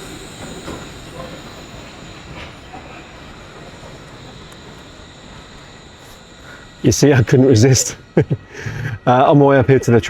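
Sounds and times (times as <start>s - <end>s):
faint high wheel squeal: 0.0s - 10.0s
suspension railway train rumbling: 0.0s - 10.0s.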